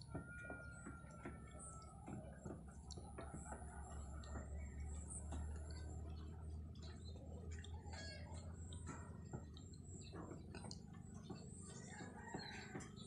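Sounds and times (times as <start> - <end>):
faint bird chirps and clicks: 0.0 - 13.0.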